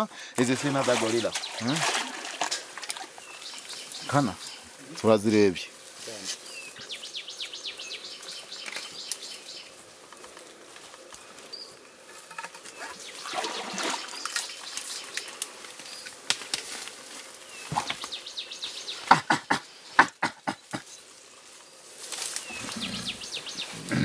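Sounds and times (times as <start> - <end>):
gorilla rustling plants and rocks: 0.0 - 24.0.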